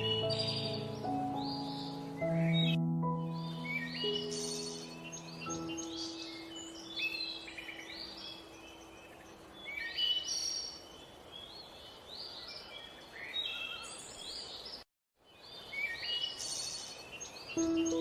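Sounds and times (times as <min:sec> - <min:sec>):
small birds chirping and singing: 0:00.0 - 0:18.0.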